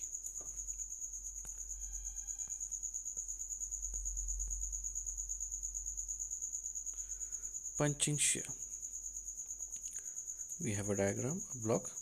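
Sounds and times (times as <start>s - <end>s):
high-pitched insect chirping: 0.0s - 12.0s.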